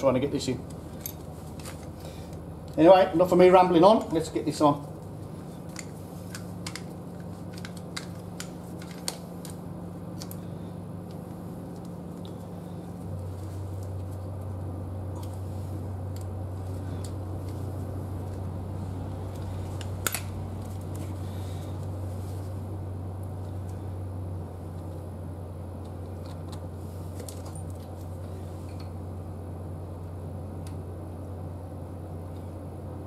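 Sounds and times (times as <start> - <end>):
low hum: 0.0 - 33.0.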